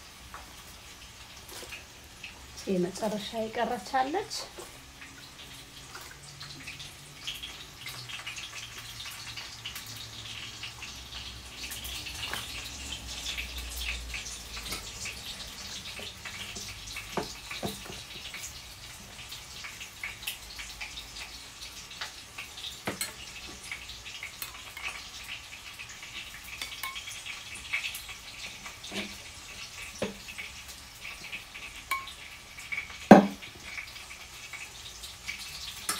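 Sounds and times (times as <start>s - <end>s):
broth dripping and splashing: 4.5s - 35.9s.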